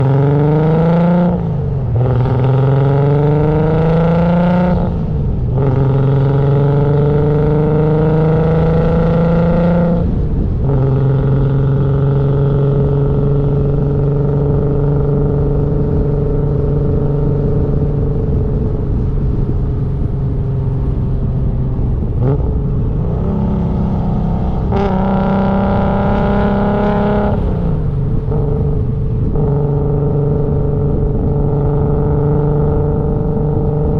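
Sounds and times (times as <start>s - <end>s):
car engine accelerating: 0.0s - 33.9s.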